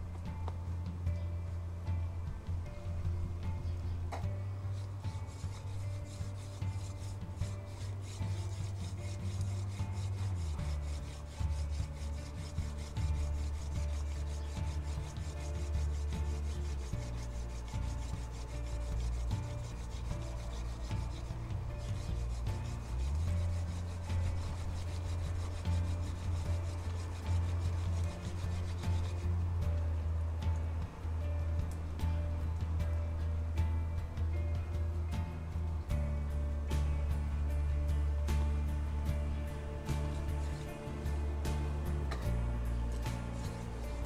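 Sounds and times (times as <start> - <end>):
background music with low notes: 0.0 - 44.0
wooden spindle grinding in hearth board: 1.9 - 33.2, 34.0 - 44.0.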